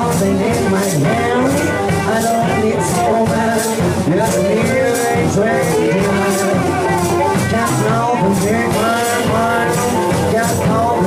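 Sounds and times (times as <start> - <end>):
acoustic guitar: 0.0 - 11.0
drum kit cymbal beat: 0.0 - 11.0
harmonica wailing: 0.0 - 11.0.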